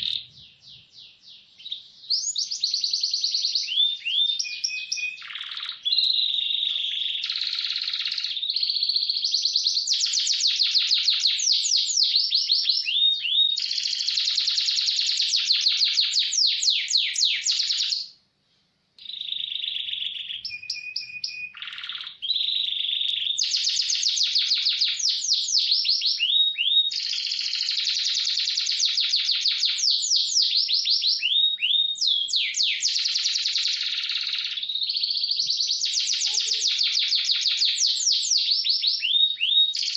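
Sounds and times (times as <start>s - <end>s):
canary singing trills: 0.0s - 18.2s, 19.0s - 39.9s.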